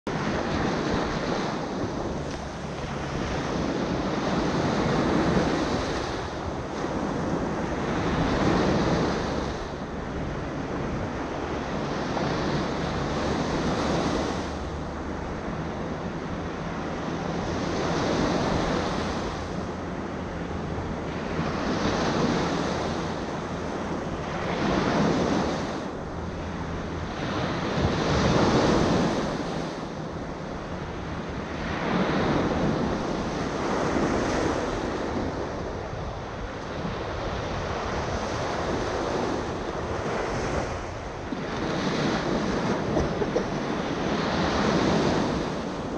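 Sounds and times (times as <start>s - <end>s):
small waves breaking on shore: 0.1s - 45.9s
wind buffeting microphone: 0.1s - 45.9s.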